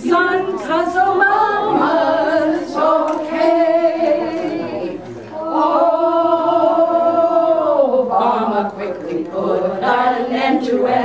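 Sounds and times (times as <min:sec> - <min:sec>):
women singing a cappella: 0:00.0 - 0:11.0.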